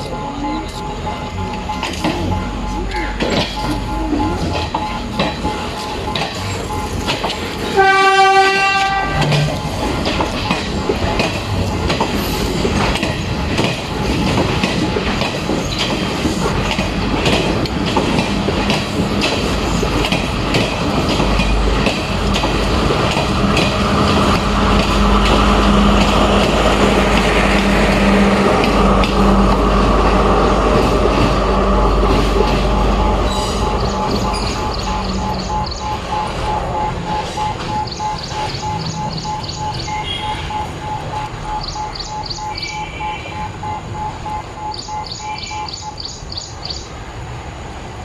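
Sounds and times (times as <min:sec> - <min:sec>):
wheels clicking over rail joints: 0:00.0 - 0:46.8
train running past: 0:00.0 - 0:48.0.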